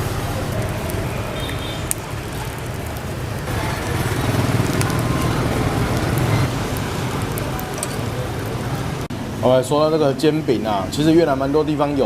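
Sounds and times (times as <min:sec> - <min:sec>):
street traffic engines passing: 0:00.0 - 0:12.0.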